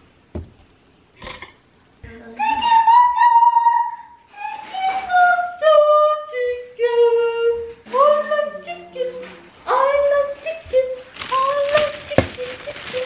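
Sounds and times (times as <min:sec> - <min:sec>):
lower voice singing: 0:02.0 - 0:13.0
woman singing unaccompanied: 0:02.0 - 0:13.0.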